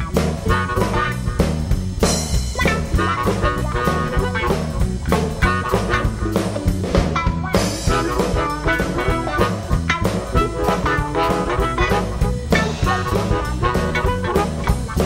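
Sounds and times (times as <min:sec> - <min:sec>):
bass guitar: 0:00.0 - 0:15.0
drum kit steady beat: 0:00.0 - 0:15.0
electric guitar: 0:00.0 - 0:15.0.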